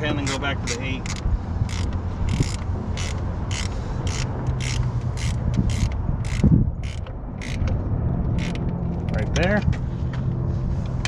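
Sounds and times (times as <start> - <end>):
ratchet wrench clicking: 0.2 - 9.2.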